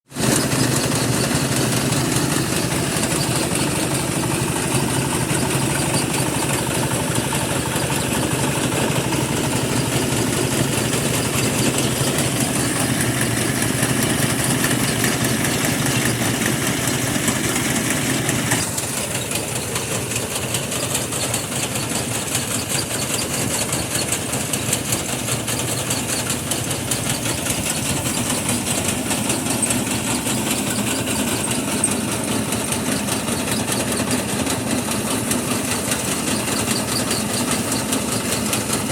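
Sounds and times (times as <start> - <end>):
threshing machine engine running: 0.1 - 38.9.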